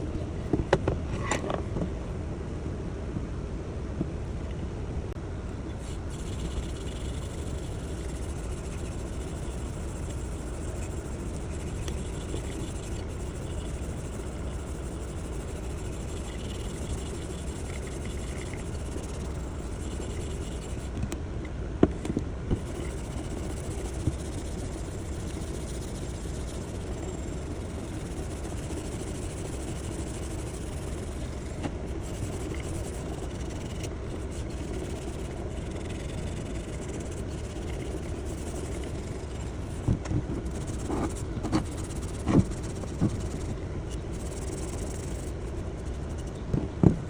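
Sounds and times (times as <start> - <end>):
motor humming: 5.4 - 47.0.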